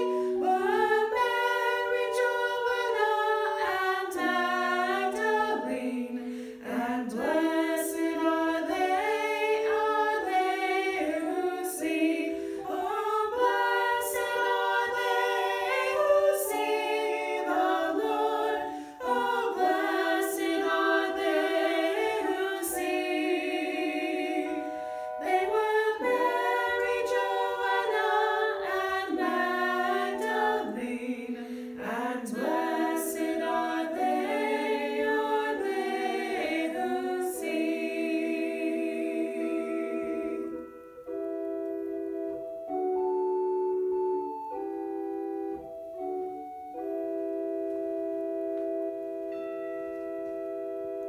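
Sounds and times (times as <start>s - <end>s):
women singing in harmony: 0.0s - 41.2s
organ-like keyboard chords: 0.0s - 51.0s.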